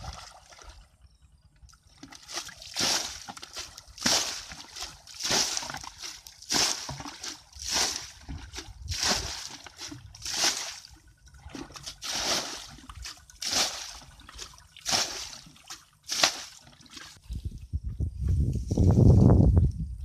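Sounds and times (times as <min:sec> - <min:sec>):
muddy water splashing: 0:00.0 - 0:17.2.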